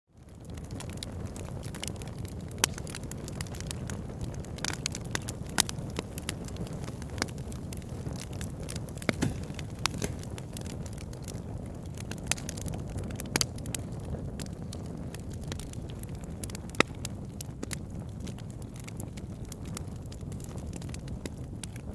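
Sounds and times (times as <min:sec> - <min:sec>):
campfire crackling and popping: 0:00.2 - 0:21.9
low fire rumble: 0:00.2 - 0:21.9.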